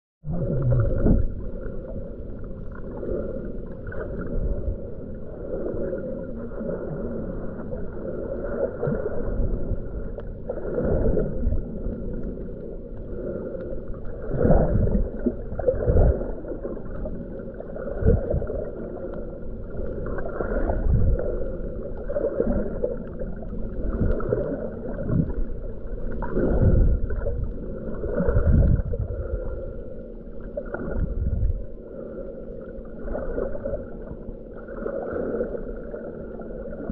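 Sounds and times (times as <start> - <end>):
underwater water rush: 0.2 - 36.9.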